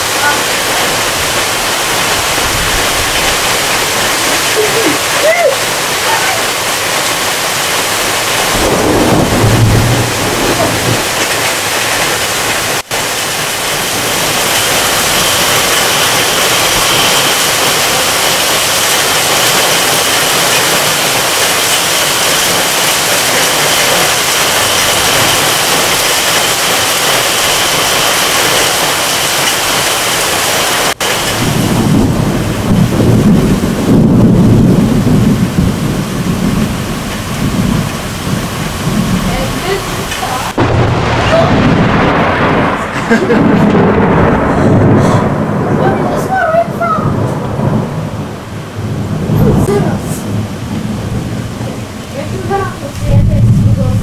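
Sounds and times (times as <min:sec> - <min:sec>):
heavy rain hissing on trees: 0:00.0 - 0:54.0
thunder rumbling: 0:00.0 - 0:54.0.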